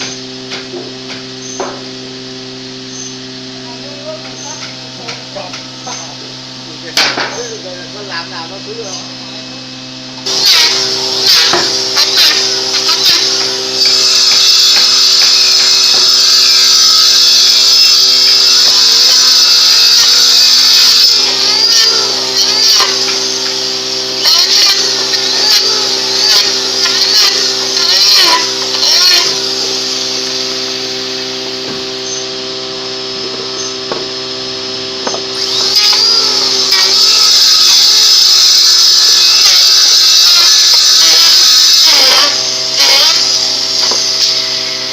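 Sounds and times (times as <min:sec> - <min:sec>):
power tool motor running: 0:00.0 - 0:44.9.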